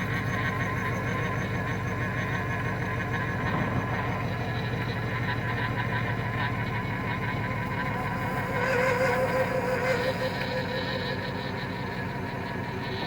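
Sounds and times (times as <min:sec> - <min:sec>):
power steering pump whine: 0:00.0 - 0:13.0.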